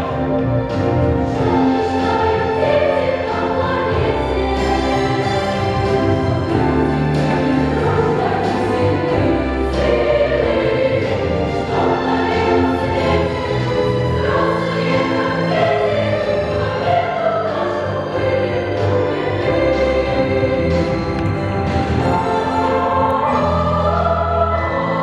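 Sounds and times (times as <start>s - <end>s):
children's choir singing: 0.0s - 25.0s
grand piano: 0.0s - 25.0s.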